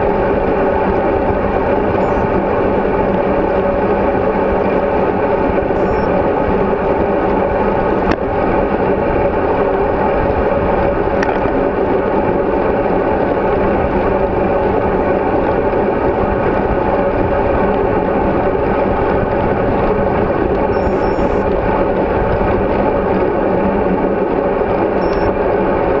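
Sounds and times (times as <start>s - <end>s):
road noise: 0.0s - 26.0s
wind rush: 0.0s - 26.0s.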